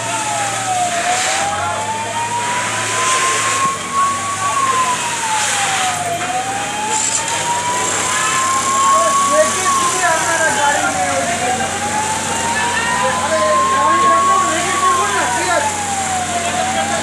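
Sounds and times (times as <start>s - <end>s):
fire engine siren wailing: 0.0s - 17.0s
steady background noise: 0.0s - 17.0s.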